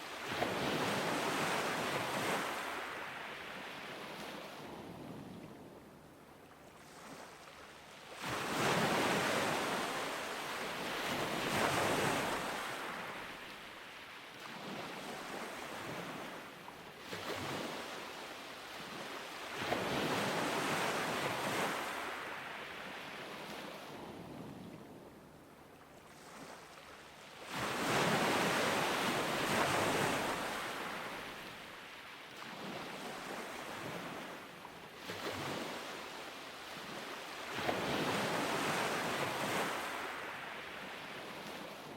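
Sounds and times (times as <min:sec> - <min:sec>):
waves crashing on a beach: 0:00.0 - 0:25.2, 0:26.1 - 0:41.9.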